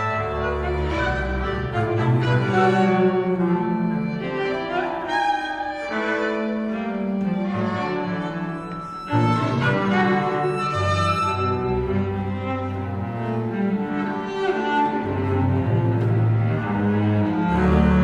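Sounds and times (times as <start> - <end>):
string trio bowed notes: 0.0 - 18.0.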